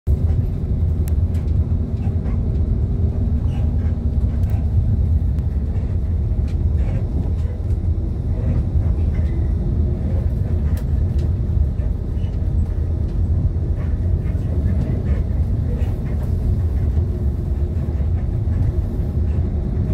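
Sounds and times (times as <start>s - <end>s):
bus engine and tyres rumbling: 0.0s - 19.9s.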